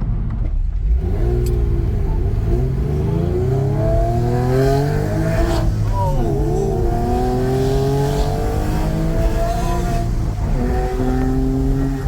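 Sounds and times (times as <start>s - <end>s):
sports car engine accelerating: 0.2s - 12.0s.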